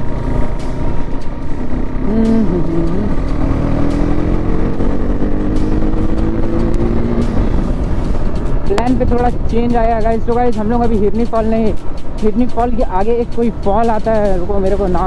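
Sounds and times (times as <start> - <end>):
motorcycle engine: 0.0 - 12.2
heavy wind noise: 0.0 - 15.0.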